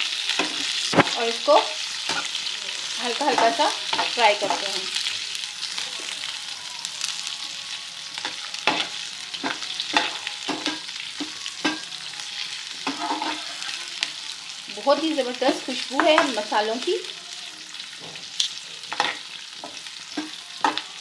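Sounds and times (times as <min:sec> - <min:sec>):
spices sizzling in hot fat: 0:00.0 - 0:21.0.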